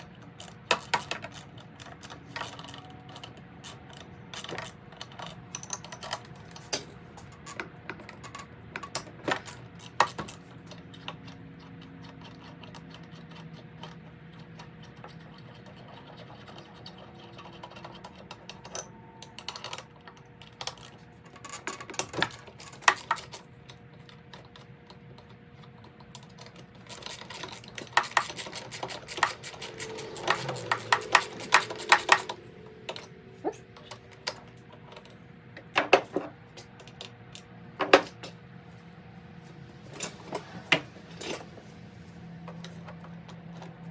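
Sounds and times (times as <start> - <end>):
tools and parts clicking and knocking: 0.0 - 38.4, 42.4 - 43.9.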